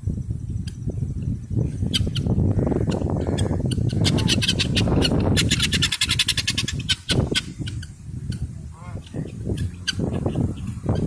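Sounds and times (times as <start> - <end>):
guineafowl rattling calls: 0.6 - 11.0.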